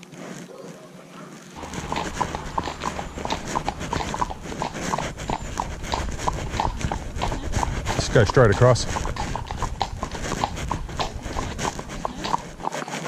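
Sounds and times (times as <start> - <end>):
horse hooves clip-clopping: 1.6 - 13.0.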